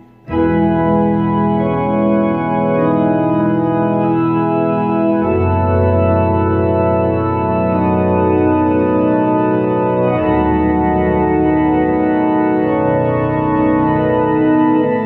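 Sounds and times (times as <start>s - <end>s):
electronic organ playing a hymn: 0.0s - 15.0s.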